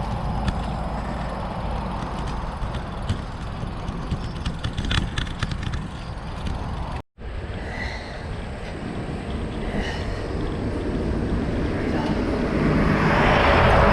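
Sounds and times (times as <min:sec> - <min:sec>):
wind and road noise: 0:00.0 - 0:13.9.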